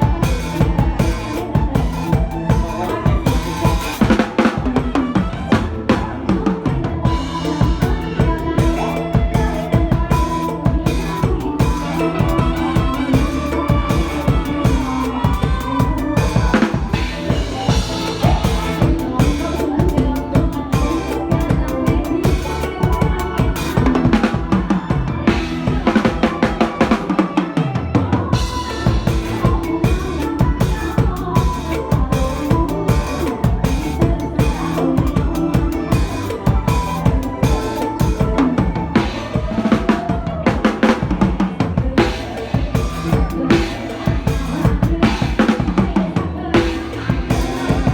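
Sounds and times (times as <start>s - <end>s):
backing track melody: 0.0s - 47.9s
fast drum kit beat: 0.0s - 47.9s.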